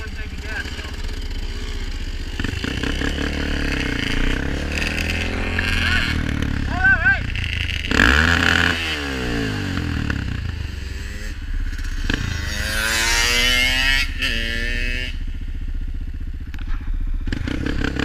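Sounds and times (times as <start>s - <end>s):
dirt bike accelerating past: 0.0s - 15.4s, 16.5s - 18.0s
quad engine running: 0.0s - 18.0s.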